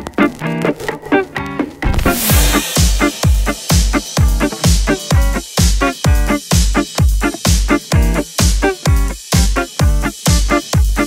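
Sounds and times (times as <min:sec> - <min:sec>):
bass drum beat: 0:00.0 - 0:11.0
dance music: 0:00.0 - 0:11.0.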